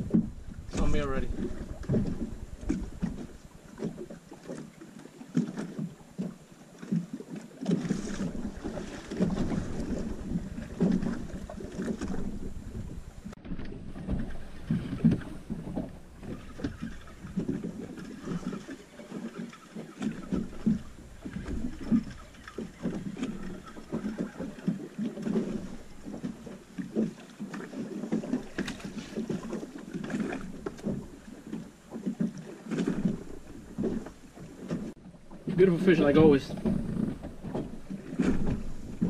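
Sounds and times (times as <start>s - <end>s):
waves lapping against boat hull: 0.0s - 39.0s.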